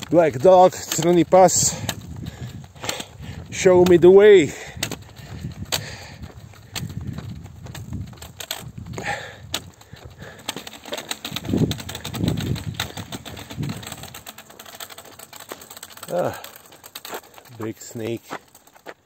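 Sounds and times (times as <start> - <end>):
footsteps on asphalt: 0.0 - 19.0.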